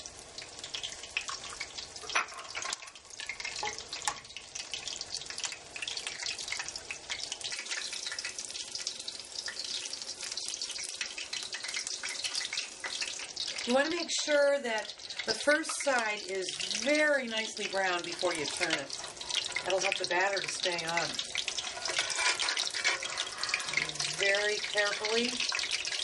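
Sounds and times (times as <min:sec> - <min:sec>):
chicken frying in oil: 0:00.0 - 0:26.0
eggs frying in butter: 0:00.0 - 0:26.0.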